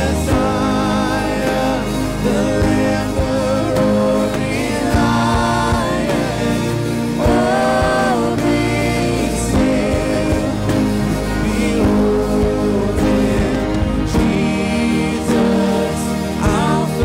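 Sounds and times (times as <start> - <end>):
keyboard playing: 0.0 - 17.0
man singing into a microphone: 0.0 - 17.0.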